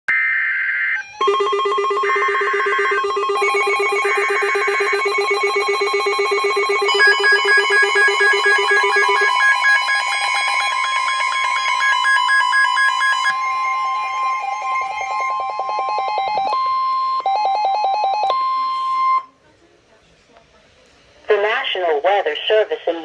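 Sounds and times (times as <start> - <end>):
pulsing multi-tone alert signal: 0.1 - 19.3.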